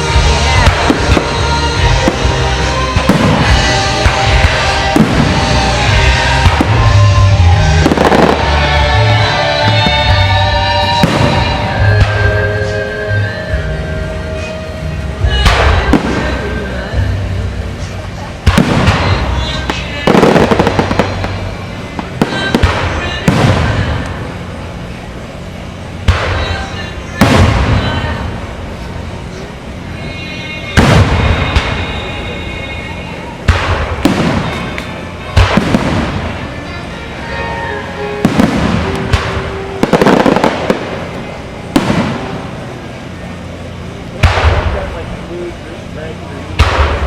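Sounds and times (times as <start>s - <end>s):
fireworks bursting with rumbling tail: 0.0s - 47.0s.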